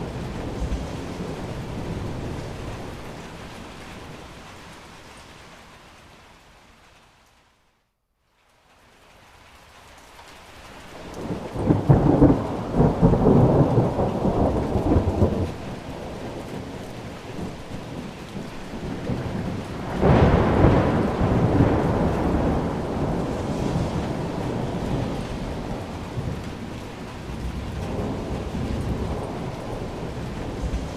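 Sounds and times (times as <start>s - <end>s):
thunder rumbling: 0.0s - 5.1s, 11.0s - 30.9s
steady rain: 0.0s - 30.9s.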